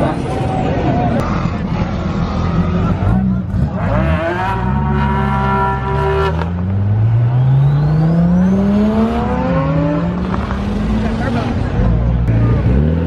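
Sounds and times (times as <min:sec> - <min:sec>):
car engine accelerating hard: 0:01.2 - 0:13.0.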